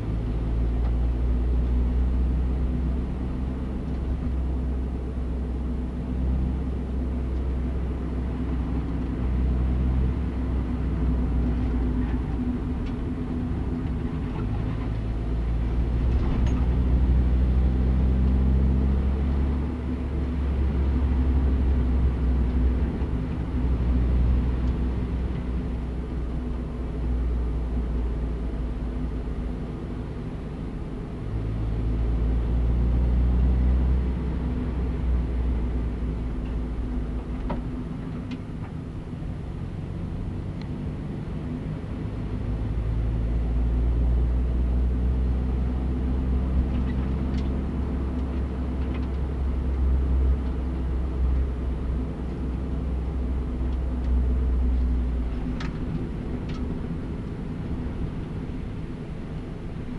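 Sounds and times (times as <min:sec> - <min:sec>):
car engine and tyre drone: 0:00.0 - 0:59.9.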